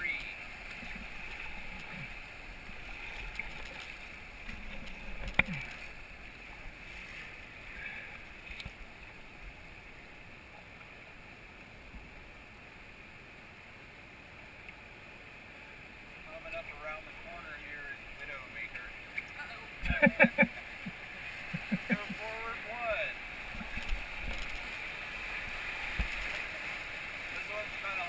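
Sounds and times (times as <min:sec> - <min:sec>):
river water rushing and splashing: 0:00.0 - 0:28.0.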